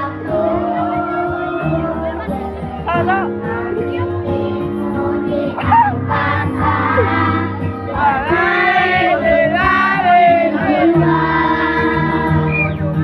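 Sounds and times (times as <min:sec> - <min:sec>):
children's choir singing: 0:00.0 - 0:02.8, 0:03.6 - 0:13.0
instrumental accompaniment: 0:00.0 - 0:13.0.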